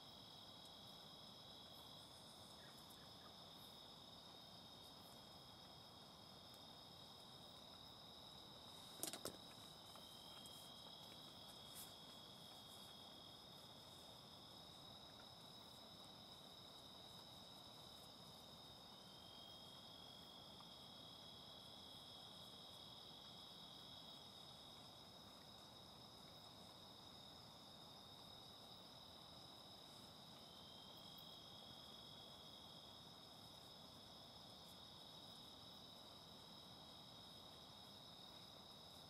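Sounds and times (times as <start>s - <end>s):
night insects trilling: 0.0s - 39.0s.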